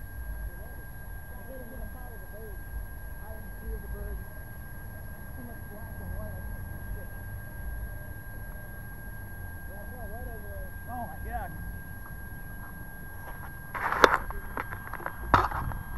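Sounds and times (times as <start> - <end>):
faint distant calls: 0.0 - 15.9
high electronic whine: 0.0 - 15.9
low wind rumble: 0.0 - 15.9.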